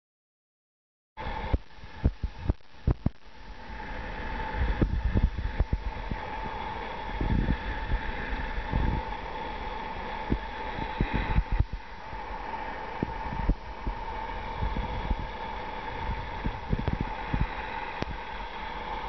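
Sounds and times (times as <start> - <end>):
faint hum: 1.2 - 19.0.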